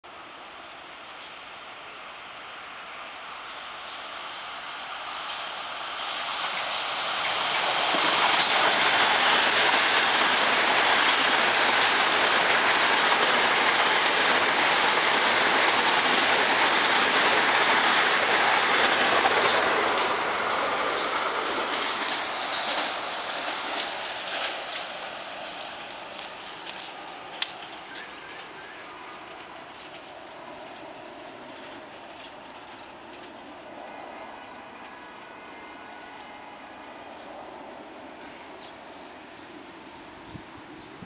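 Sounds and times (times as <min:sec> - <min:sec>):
train rushing past on rails: 0:00.1 - 0:41.0.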